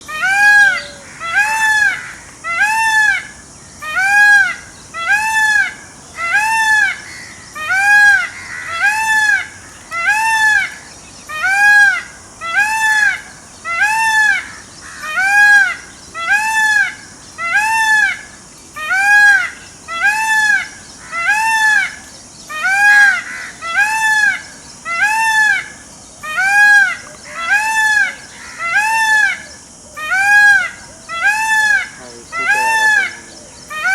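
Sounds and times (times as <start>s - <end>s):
peacock calling: 0.0s - 33.9s.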